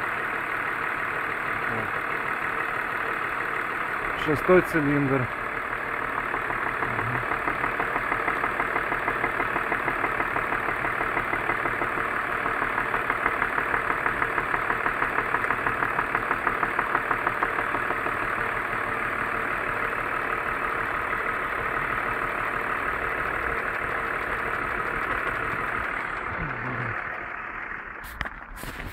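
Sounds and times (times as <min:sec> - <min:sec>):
car engine idling with knock: 0:00.0 - 0:28.9.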